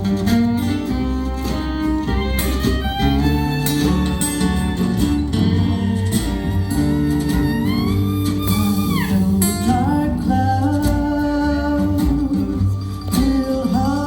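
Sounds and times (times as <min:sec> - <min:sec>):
acoustic folk band playing: 0:00.0 - 0:14.0.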